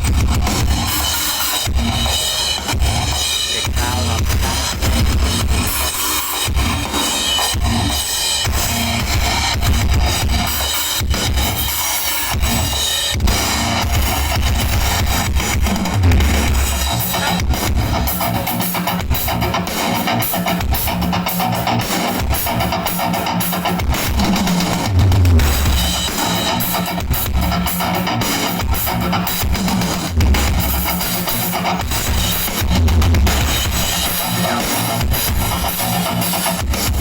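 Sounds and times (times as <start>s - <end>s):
loud drum-led bass music: 0.0s - 37.0s.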